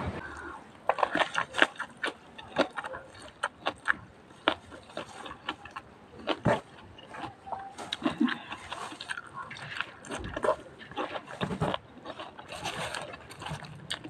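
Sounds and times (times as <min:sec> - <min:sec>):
person chewing and crunching food: 0:00.2 - 0:14.0.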